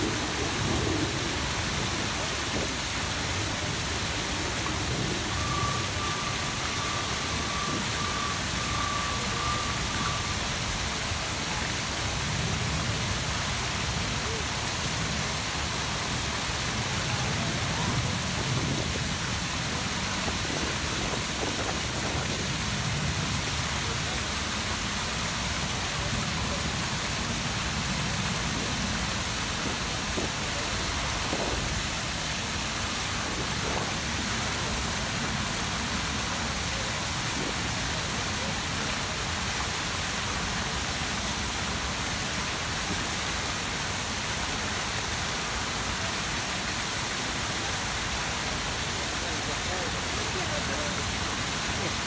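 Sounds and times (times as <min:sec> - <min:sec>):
fountain water splashing: 0:00.0 - 0:52.0.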